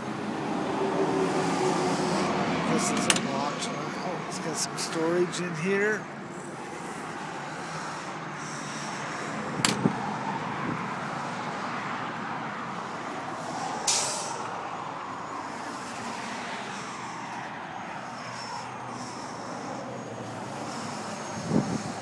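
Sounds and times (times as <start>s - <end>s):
vehicle and traffic noise: 0.0s - 22.0s.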